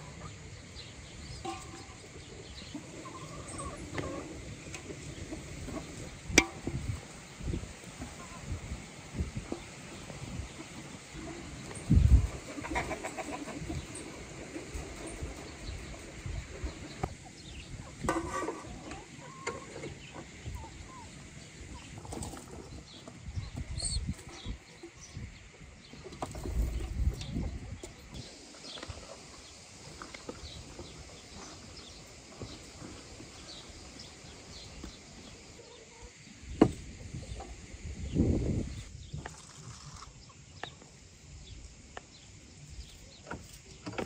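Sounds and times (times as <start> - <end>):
chickens clucking: 0.0 - 41.0
small birds chirping: 0.0 - 44.0.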